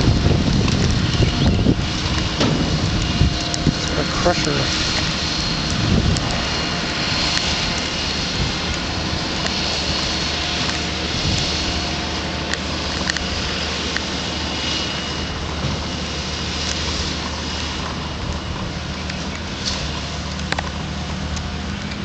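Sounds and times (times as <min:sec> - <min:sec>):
low hum: 0:00.0 - 0:22.0
vehicle engine and road noise: 0:00.0 - 0:22.0.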